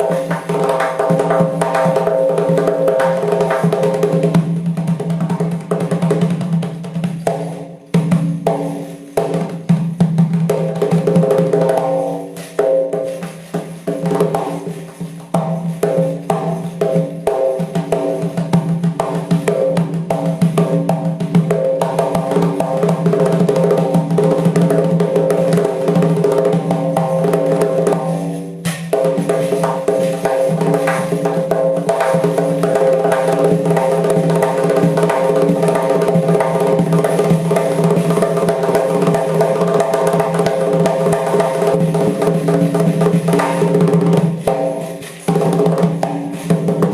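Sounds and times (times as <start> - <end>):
frame drum with metal rings: 0.0 - 46.9.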